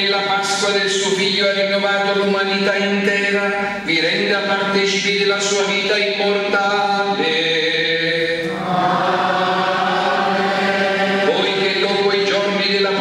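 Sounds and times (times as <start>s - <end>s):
man chanting: 0.0s - 8.6s, 11.1s - 13.0s.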